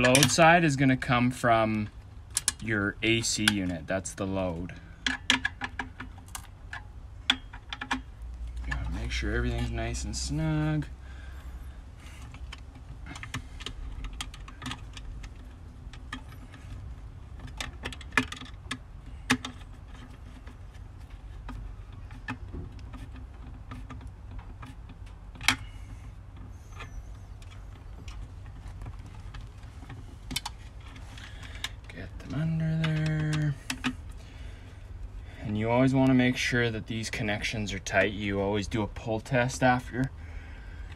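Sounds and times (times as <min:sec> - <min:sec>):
low steady rumble: 0:00.0 - 0:40.9.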